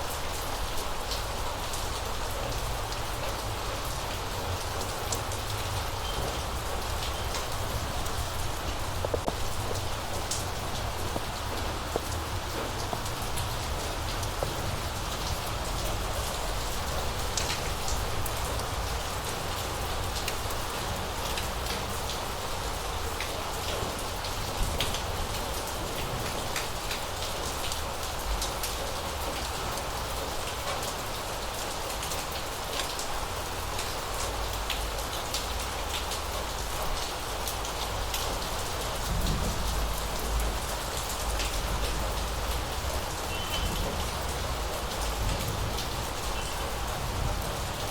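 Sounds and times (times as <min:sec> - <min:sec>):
rain on hard surfaces: 0:00.0 - 0:47.9.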